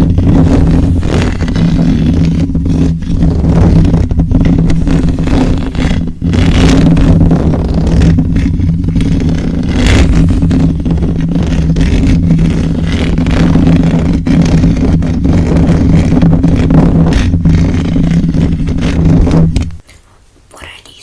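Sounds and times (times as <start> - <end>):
low hum: 0.0 - 19.9
rubbing and scratching on microphone: 0.0 - 21.0.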